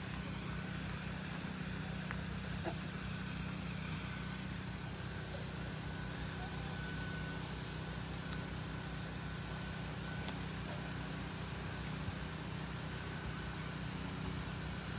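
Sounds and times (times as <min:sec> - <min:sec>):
constant low hum: 0:00.0 - 0:14.9
even outdoor hiss: 0:00.0 - 0:14.9.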